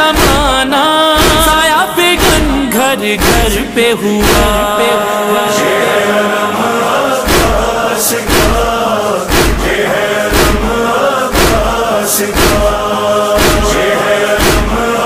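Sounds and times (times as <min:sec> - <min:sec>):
thudding beat: 0:00.0 - 0:05.0, 0:06.6 - 0:15.0
chorus of voices chanting: 0:00.0 - 0:15.0.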